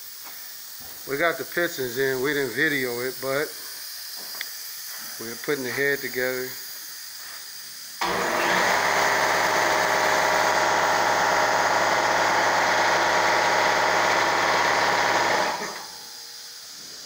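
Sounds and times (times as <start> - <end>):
power ratchet running: 0.5 - 16.8.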